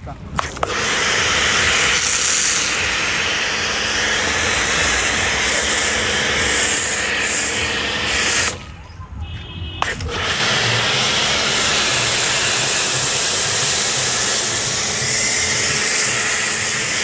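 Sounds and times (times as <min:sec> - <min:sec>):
foam cannon spraying hiss: 0:00.4 - 0:08.7, 0:09.8 - 0:17.0.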